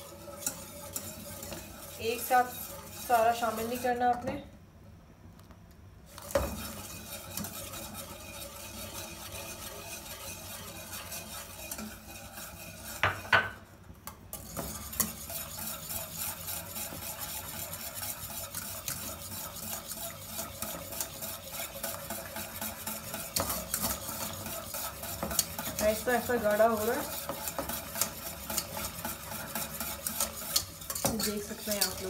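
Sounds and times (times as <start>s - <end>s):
whisk clinking against metal pan: 0.0s - 4.3s, 6.2s - 13.6s, 14.3s - 32.0s.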